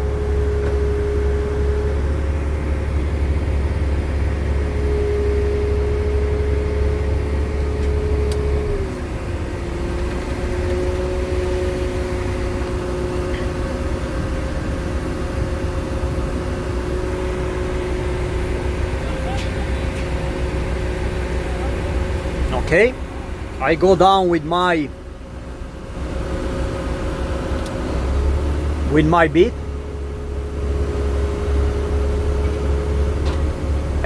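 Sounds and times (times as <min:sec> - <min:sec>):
drill rig engine and hydraulics humming: 0:00.0 - 0:34.0.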